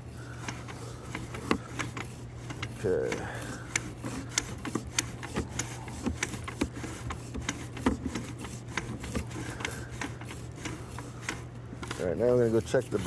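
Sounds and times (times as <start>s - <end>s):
steady low hum: 0.0s - 13.0s
cable clicks and knocks: 0.4s - 12.0s.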